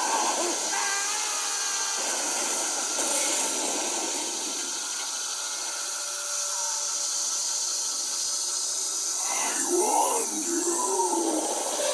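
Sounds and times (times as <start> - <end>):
cicadas buzzing: 0.0 - 11.9.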